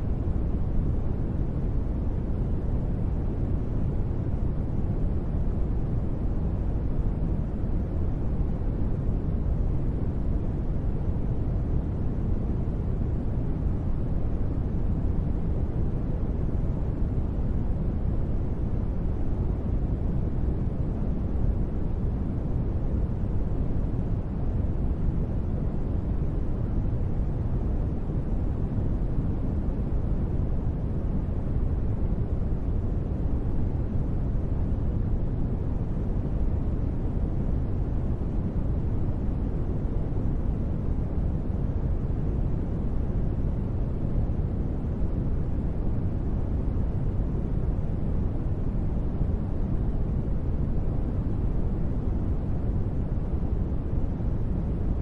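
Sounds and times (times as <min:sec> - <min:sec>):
low rumbling ambient noise: 0:00.0 - 0:55.0.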